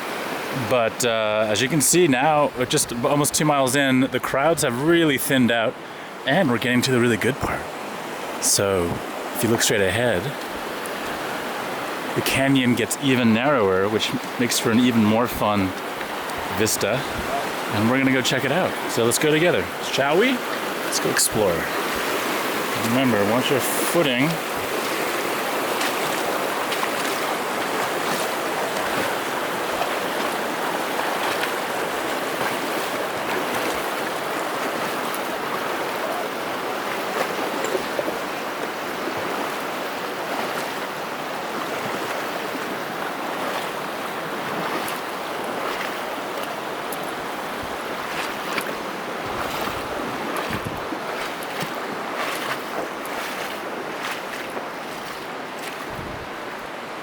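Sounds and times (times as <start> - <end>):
river rushing: 0.0 - 57.0
footsteps splashing in water: 9.7 - 57.0.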